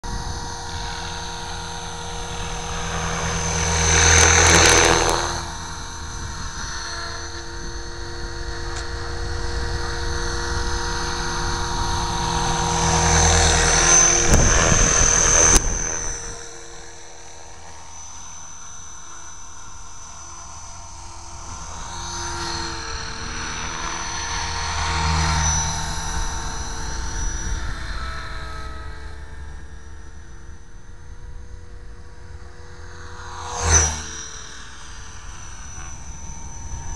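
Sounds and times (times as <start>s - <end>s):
rc helicopter motor and rotor whine: 0.0s - 36.9s.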